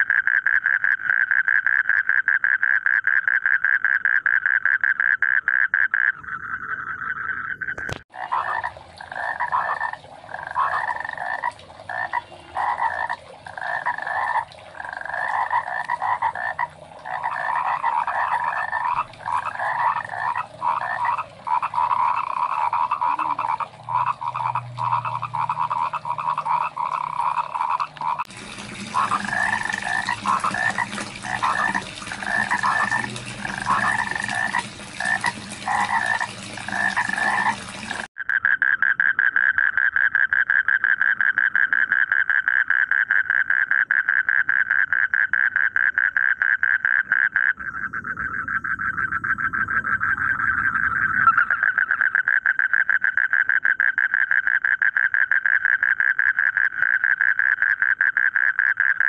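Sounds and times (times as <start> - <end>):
frogs croaking: 0.0 - 59.0.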